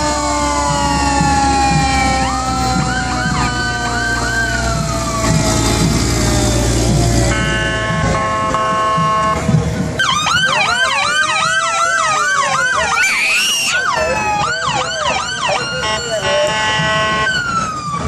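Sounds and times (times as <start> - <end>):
siren wail: 0.0 - 7.7, 10.0 - 18.0
sirens yelping: 0.0 - 9.4, 10.0 - 18.0
steady siren tones: 0.0 - 9.4, 10.0 - 18.0.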